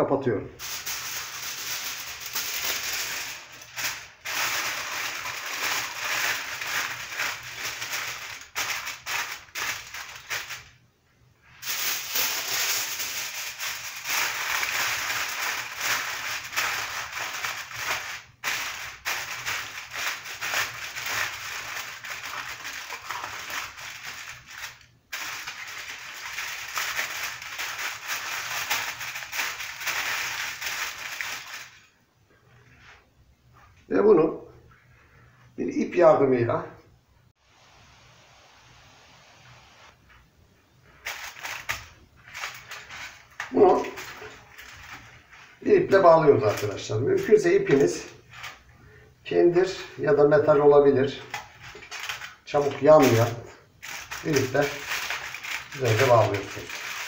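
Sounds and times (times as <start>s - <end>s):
aluminium foil crinkling: 0.6s - 10.8s, 11.5s - 32.0s, 40.8s - 57.0s.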